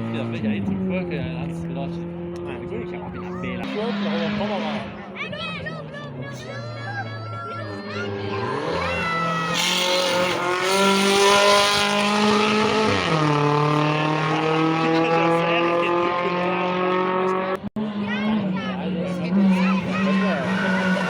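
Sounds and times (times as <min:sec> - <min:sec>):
rally car engine accelerating: 0:00.0 - 0:07.2, 0:07.8 - 0:21.0.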